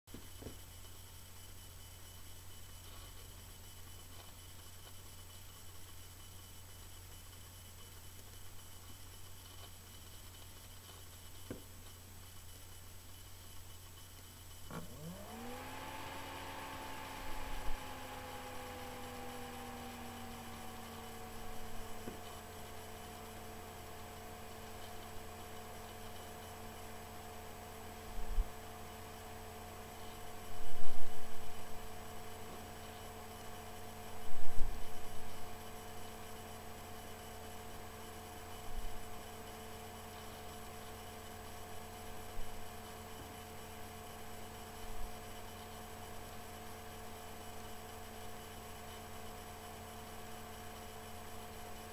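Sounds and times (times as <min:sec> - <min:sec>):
electrical hum: 0:00.1 - 0:51.9.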